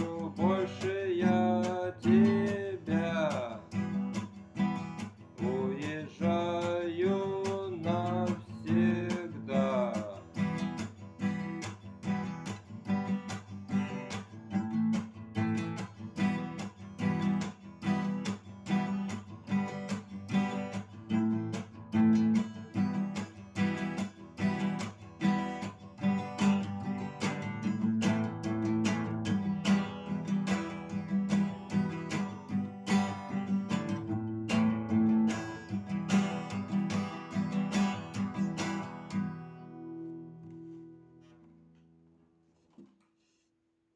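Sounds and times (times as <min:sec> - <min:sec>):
acoustic guitar strumming: 0:00.0 - 0:43.0.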